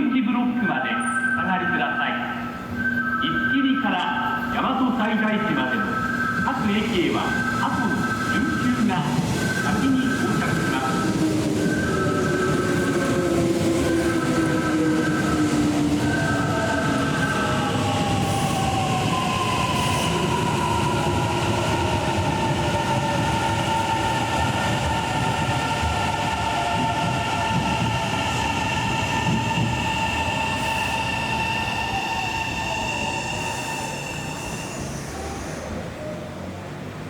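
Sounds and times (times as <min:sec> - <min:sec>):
train brakes squealing: 0:00.9 - 0:04.5, 0:05.6 - 0:36.5.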